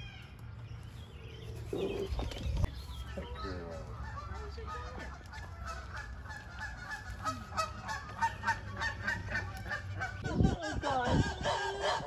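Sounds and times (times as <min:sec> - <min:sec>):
birds honking: 0:01.5 - 0:12.0.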